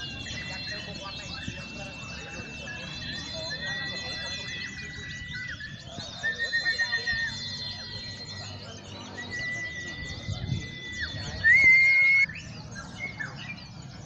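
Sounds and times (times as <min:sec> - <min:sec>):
small birds chirping and twittering: 0:00.0 - 0:14.0
steady whistle-like tone: 0:00.0 - 0:14.0.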